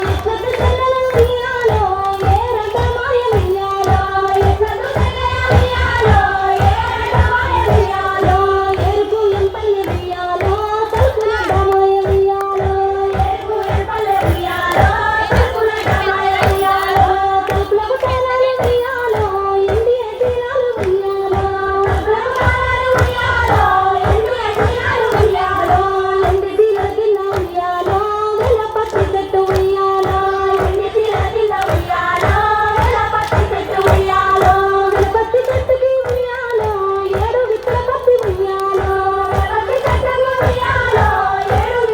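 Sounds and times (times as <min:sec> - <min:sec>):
rhythmic hand-clapping: 0:00.0 - 0:41.9
women singing folk song: 0:00.0 - 0:41.9.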